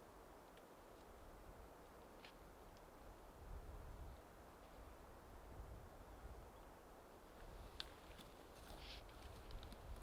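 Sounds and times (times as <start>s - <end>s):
light wind on microphone: 1.0s - 10.0s.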